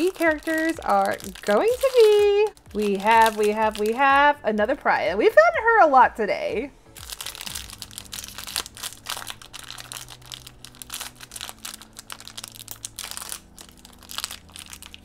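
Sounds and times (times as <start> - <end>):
foil bag crinkling: 0.0 - 4.3, 7.0 - 15.0.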